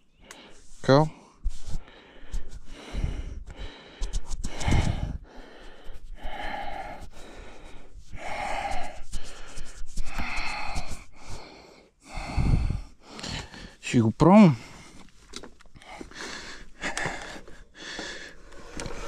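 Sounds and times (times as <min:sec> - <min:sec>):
person breathing hard: 0:00.1 - 0:13.8, 0:14.5 - 0:15.2, 0:15.8 - 0:19.0.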